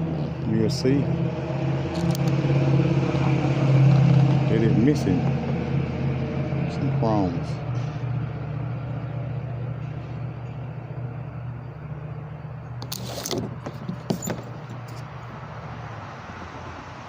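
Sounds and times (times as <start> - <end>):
low mechanical hum: 0.0 - 16.3.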